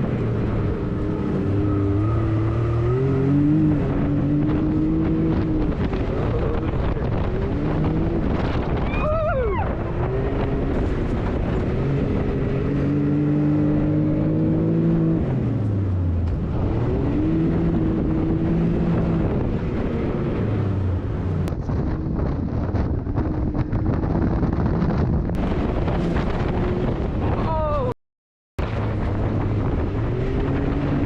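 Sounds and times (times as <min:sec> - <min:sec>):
off-road vehicle engine running hard: 0:00.0 - 0:27.8, 0:28.6 - 0:31.0
wind noise: 0:00.0 - 0:27.9, 0:28.6 - 0:31.0.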